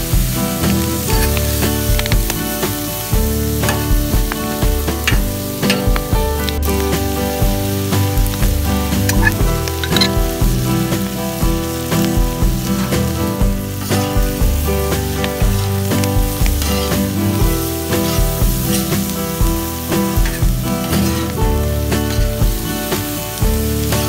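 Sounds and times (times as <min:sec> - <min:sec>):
background music: 0:00.0 - 0:24.0
food sizzling on a griddle: 0:00.0 - 0:24.0
spatula scraping a griddle: 0:00.6 - 0:23.3.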